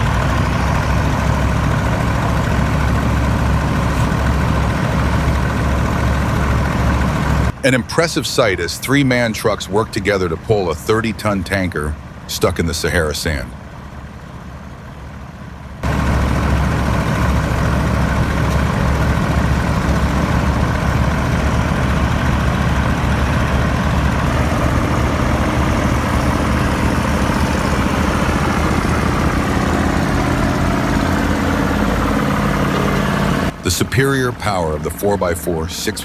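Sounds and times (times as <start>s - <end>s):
truck diesel engines running: 0.0s - 36.0s.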